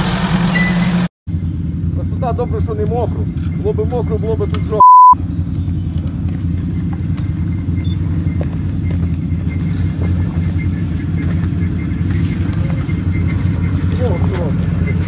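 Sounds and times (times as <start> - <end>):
quad bike engine at low revs: 0.0 - 15.0.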